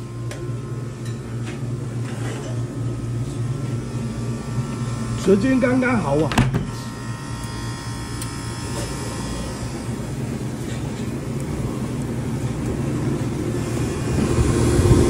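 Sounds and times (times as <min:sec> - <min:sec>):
ice machine humming: 0:00.0 - 0:15.0.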